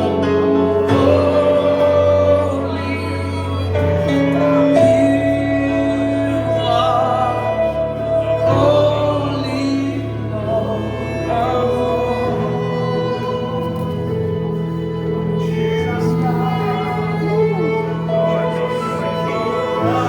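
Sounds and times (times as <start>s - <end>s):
person singing long notes: 0.0s - 20.0s
sustained worship chords: 0.0s - 20.0s.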